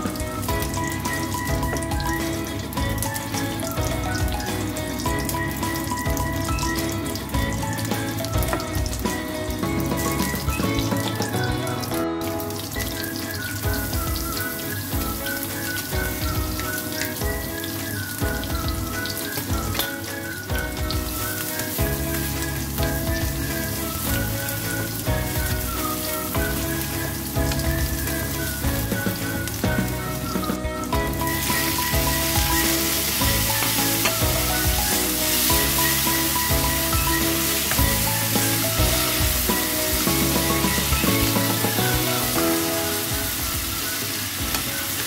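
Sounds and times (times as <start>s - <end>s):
background music with bass line: 0.0s - 44.8s
fish balls frying in oil: 0.0s - 45.0s.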